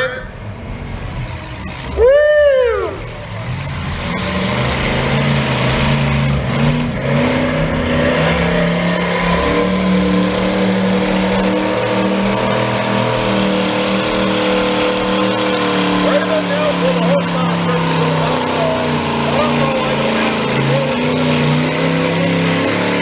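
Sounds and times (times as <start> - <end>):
tractor engine under load: 0.0 - 2.0, 2.8 - 23.0.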